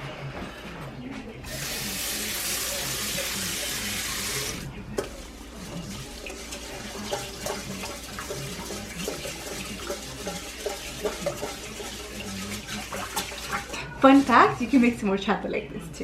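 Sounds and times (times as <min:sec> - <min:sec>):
rice sloshing in water: 0:01.6 - 0:14.9.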